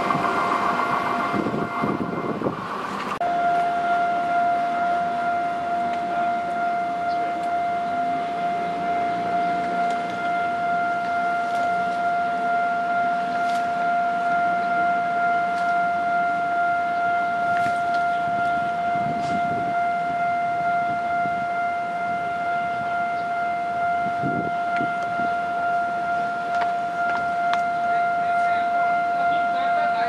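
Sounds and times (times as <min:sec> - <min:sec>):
level crossing alarm tone: 0:00.0 - 0:30.0
low train rumble: 0:00.0 - 0:30.0.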